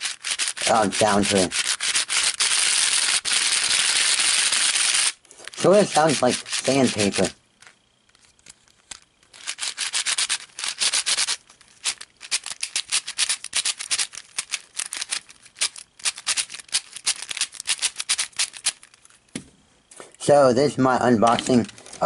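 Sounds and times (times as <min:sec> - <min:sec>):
puzzle cube turning: 0:00.0 - 0:19.3, 0:21.2 - 0:22.0.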